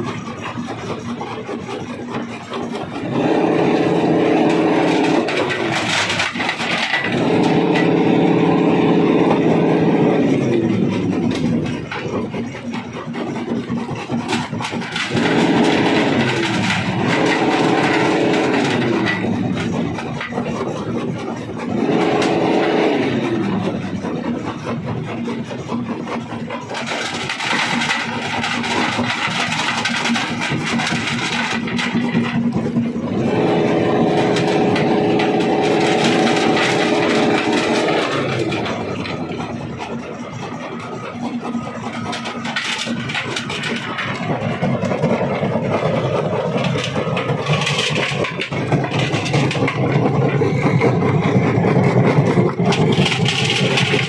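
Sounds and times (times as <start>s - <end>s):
machinery engine running: 0.0s - 54.0s
rough rattling and grinding: 0.0s - 54.0s.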